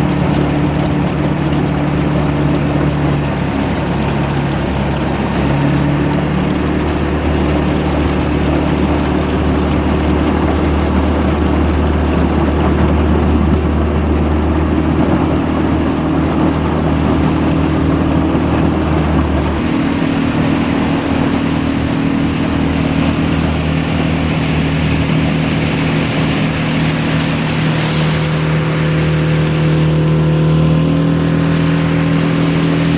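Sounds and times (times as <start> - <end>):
low rumble: 0.0 - 32.9
outboard motor running: 0.0 - 32.9.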